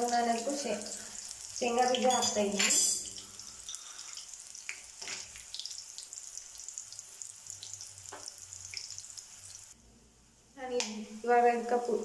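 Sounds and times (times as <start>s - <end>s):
peanuts frying in hot oil: 0.0s - 9.8s.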